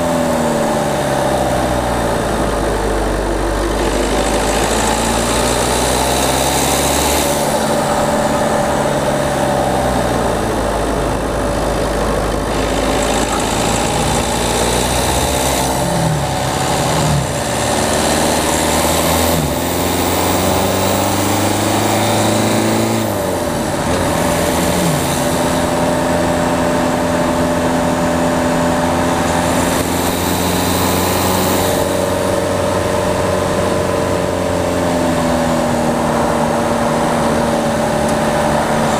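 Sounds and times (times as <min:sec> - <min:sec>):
diesel car engine driving: 0:00.0 - 0:38.9.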